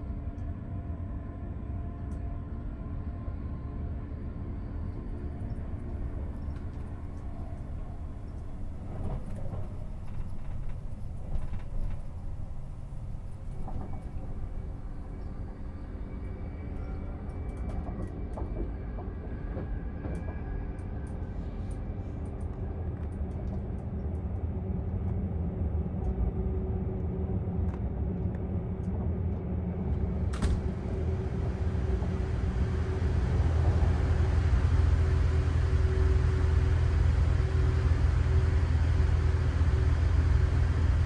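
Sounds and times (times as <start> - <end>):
train carriage rumbling on rails: 0.0 - 41.0.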